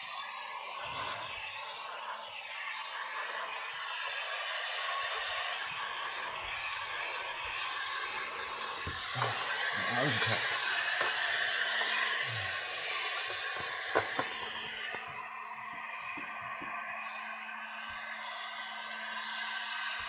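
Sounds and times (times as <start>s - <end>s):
heat gun blowing: 0.0s - 20.0s.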